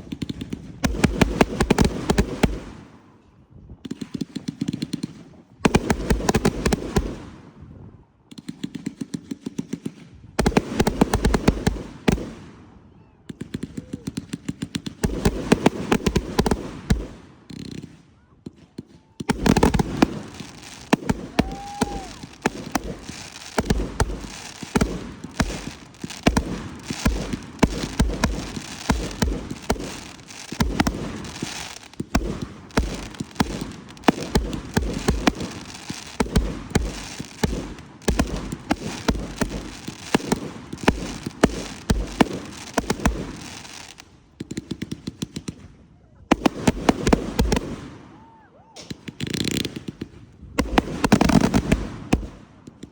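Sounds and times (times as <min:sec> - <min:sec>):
fireworks booming and crackling: 0:00.0 - 0:52.9.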